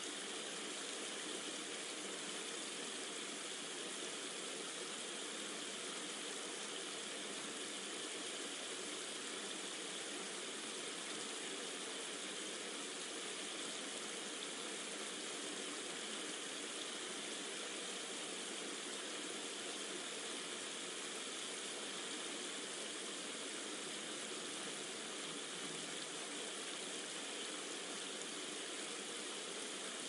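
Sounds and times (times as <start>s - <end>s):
rain and running water: 0.0s - 30.0s.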